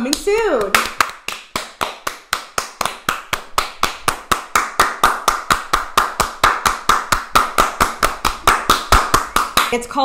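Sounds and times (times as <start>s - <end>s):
people clapping hands: 0.0s - 9.9s.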